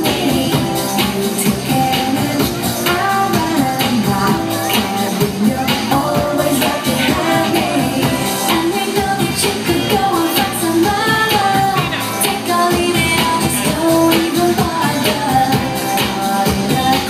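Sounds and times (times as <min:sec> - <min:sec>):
pop song over sound system: 0:00.0 - 0:17.0.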